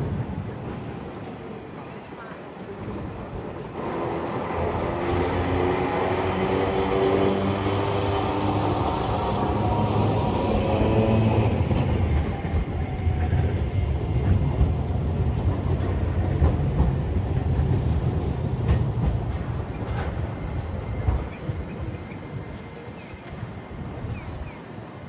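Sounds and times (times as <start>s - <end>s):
streetcar rumbling on rails: 0.0s - 25.0s.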